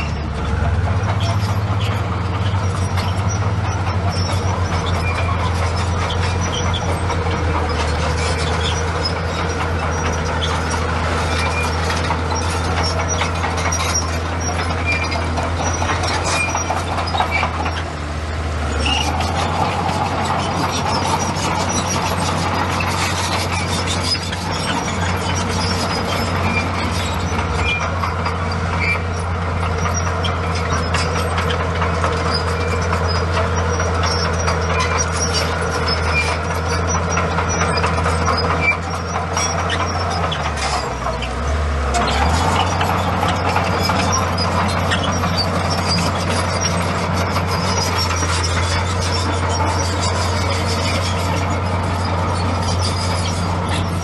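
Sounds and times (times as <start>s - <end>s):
short high squeaks: 0.0s - 18.0s, 18.6s - 54.0s
bulldozer diesel engine running: 0.0s - 54.0s.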